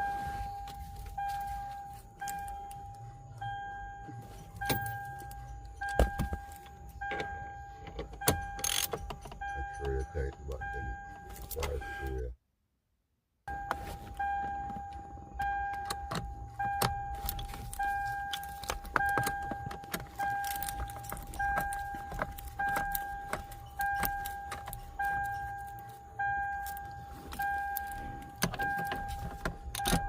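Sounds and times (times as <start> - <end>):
car dashboard warning chime: 0.0 - 12.3, 13.5 - 30.0.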